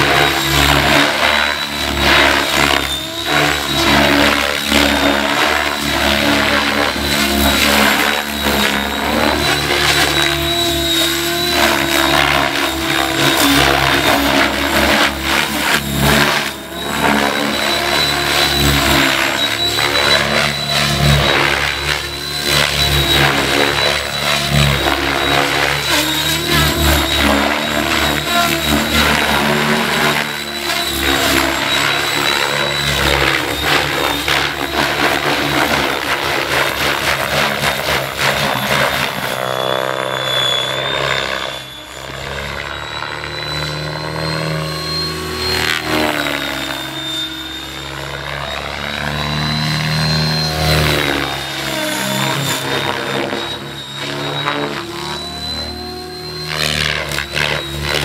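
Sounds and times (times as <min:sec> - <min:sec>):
rc helicopter motor whine: 0:00.0 - 0:58.0
rotor blade noise: 0:00.0 - 0:58.0.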